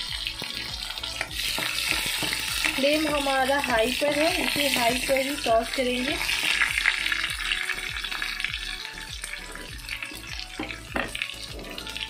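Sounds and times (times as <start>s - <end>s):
background music with steady beat: 0.0s - 12.0s
garlic sizzling in hot oil: 0.0s - 12.0s.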